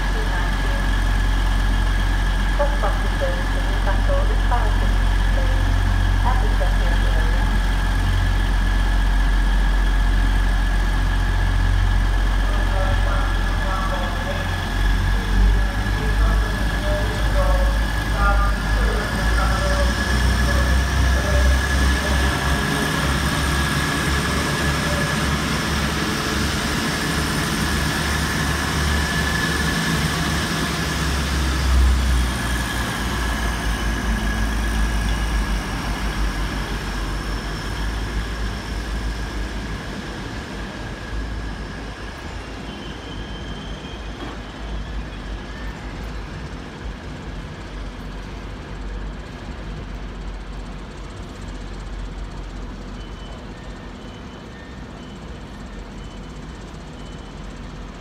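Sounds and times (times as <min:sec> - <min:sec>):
diesel train rumbling past: 0:00.0 - 0:58.0
train high whine: 0:00.0 - 0:58.0.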